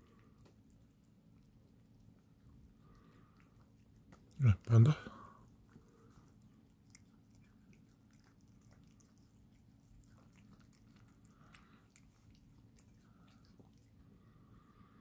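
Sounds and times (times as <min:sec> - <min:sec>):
kittens chewing and smacking: 0:00.0 - 0:15.0
low steady hum: 0:00.0 - 0:15.0.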